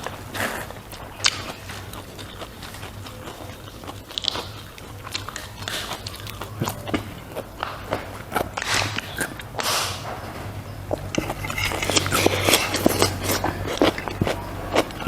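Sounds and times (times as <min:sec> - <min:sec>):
low hum: 0:00.0 - 0:15.0
person chewing food: 0:00.0 - 0:15.0.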